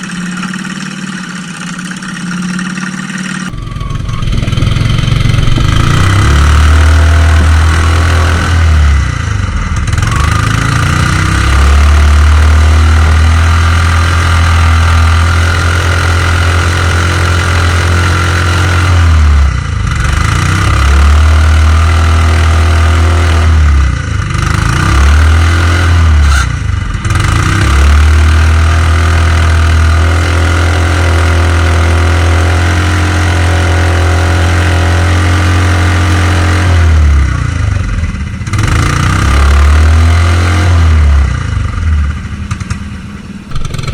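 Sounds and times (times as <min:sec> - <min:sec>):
small engine running hard: 0:00.0 - 0:43.9.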